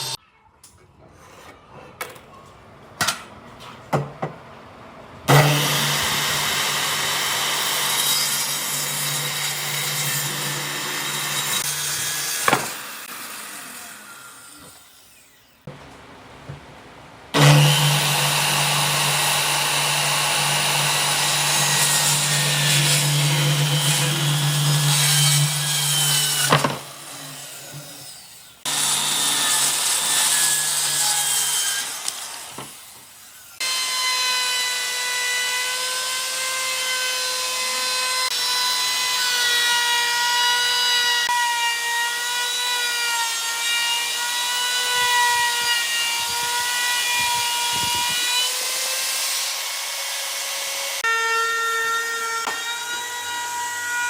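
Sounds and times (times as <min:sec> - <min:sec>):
power tool cutting wood: 0:00.0 - 0:00.2, 0:05.3 - 0:15.7, 0:17.3 - 0:54.0.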